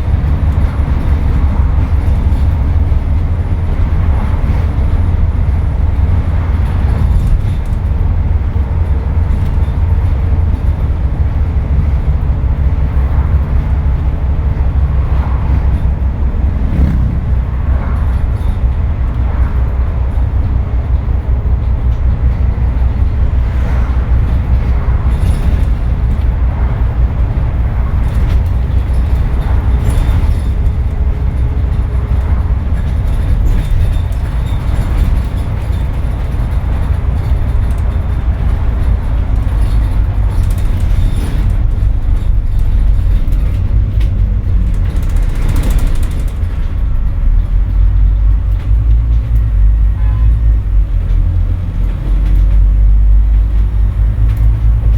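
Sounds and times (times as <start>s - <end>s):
bus diesel engine droning: 0.0s - 54.9s.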